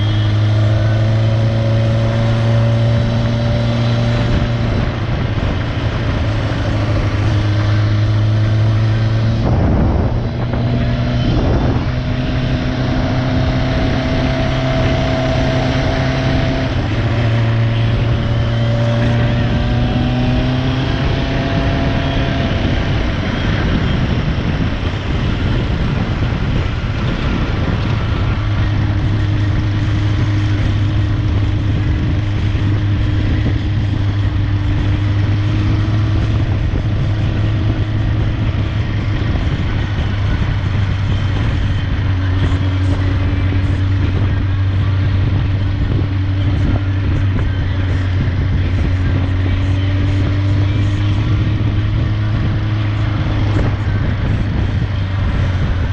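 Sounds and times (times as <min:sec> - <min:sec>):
motorcycle engine running: 0:00.0 - 0:55.9
steady rushing noise: 0:00.0 - 0:55.9.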